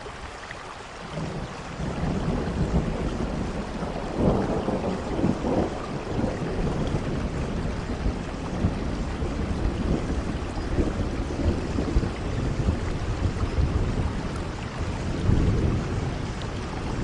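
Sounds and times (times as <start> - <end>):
steady rain: 0.0 - 17.0
thunder rumbling low: 1.2 - 17.0.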